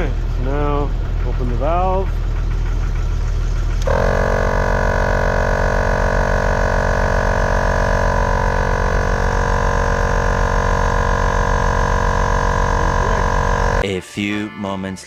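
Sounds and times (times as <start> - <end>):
air compressor running with whine: 0.0 - 13.8
low engine drone: 0.0 - 13.8.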